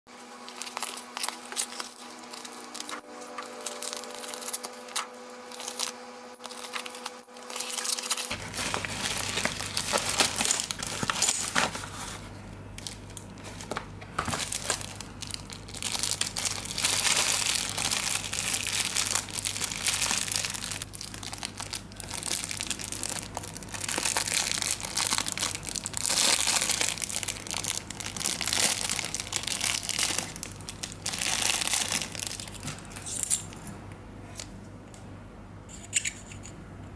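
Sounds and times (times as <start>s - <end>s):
packaging crinkling: 0.4s - 33.0s
packaging tearing: 0.4s - 33.0s.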